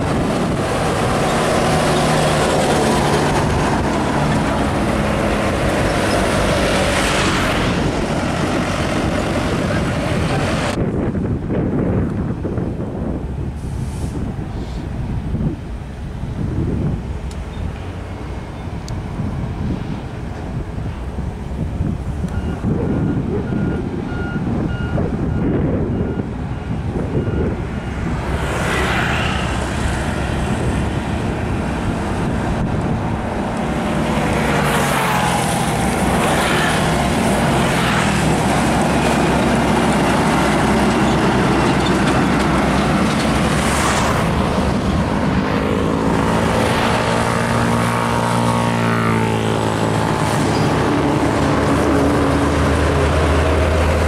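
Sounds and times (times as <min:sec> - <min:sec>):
diesel trucks passing: 0:00.0 - 0:54.0
whoosh of passing traffic: 0:00.0 - 0:54.0.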